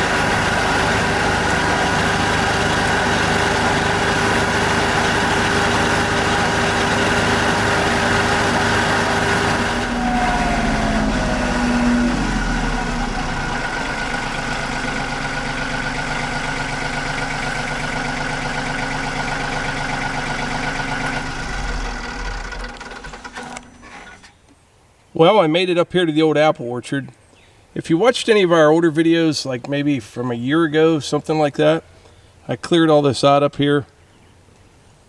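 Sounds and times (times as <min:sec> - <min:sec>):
tractor engine running then idling: 0:00.0 - 0:35.0.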